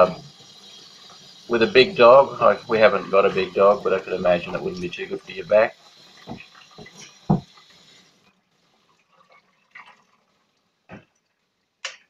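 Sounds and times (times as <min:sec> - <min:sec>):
water hissing from hose sprayer: 0:00.0 - 0:10.2.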